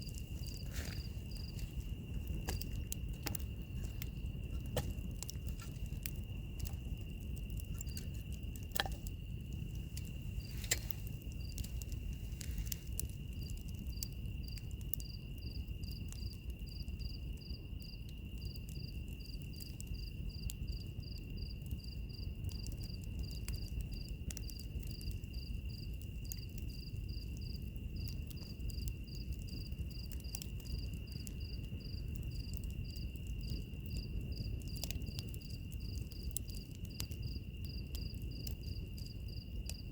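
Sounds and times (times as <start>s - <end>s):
cricket chirping: 0.0s - 39.9s
wood fire crackling: 0.0s - 39.9s.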